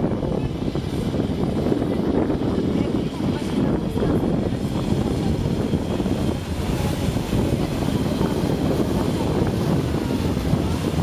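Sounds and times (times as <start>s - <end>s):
boat engines running: 0.0s - 11.0s.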